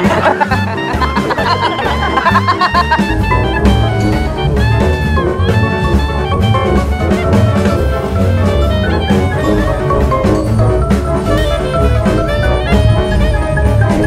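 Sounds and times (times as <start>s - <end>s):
music with drum beat and bass: 0.0s - 14.0s.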